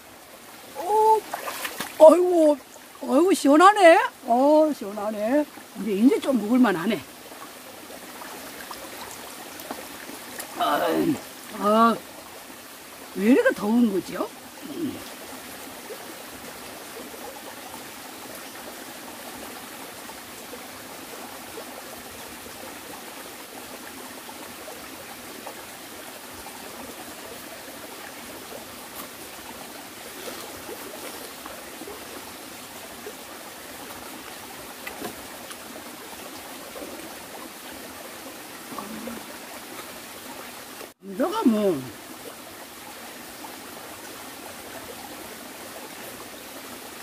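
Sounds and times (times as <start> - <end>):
stream flowing over rocks: 0.0 - 47.0.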